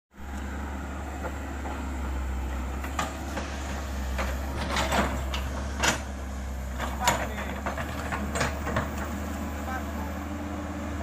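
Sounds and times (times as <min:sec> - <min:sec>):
excavator diesel engine droning: 0:00.1 - 0:11.0.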